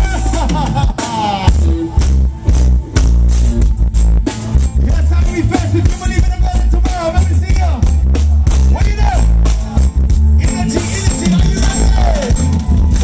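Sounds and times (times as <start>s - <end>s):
live reggae band playing: 0.0s - 13.0s.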